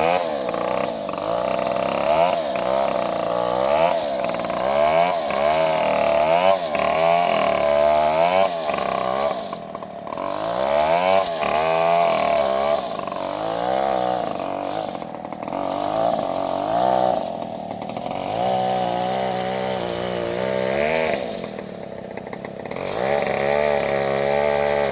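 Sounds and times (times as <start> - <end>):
small saw engine running: 0.0 - 24.9.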